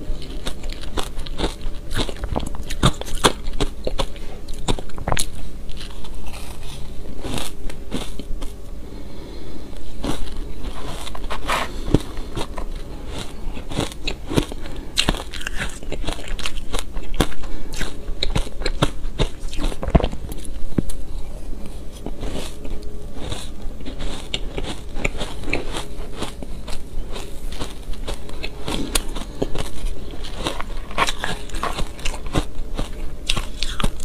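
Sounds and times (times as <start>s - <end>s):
chewing shaved ice: 0.0s - 8.6s, 9.8s - 21.2s, 21.9s - 34.0s.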